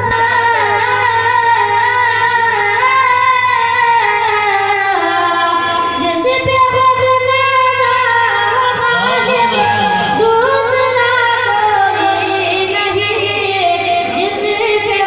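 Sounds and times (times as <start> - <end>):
boy singing into a microphone: 0.0 - 15.0.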